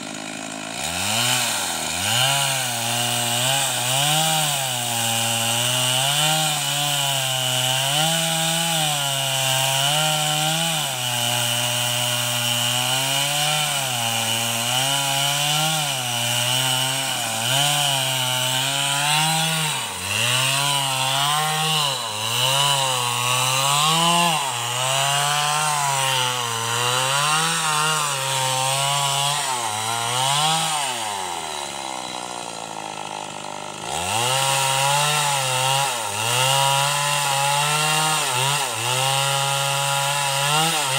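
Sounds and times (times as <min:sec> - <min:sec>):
chainsaw cutting wooden planks: 0:00.0 - 0:40.9.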